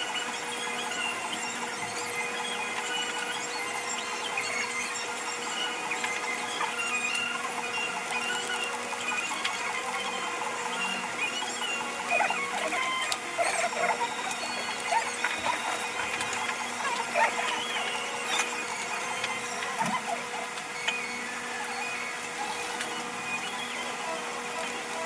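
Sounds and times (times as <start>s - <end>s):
chirpy squeaky blips: 0.0s - 25.0s.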